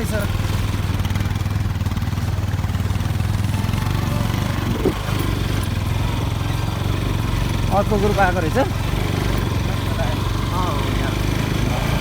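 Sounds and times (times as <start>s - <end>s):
engine running at low speed: 0.0s - 12.0s.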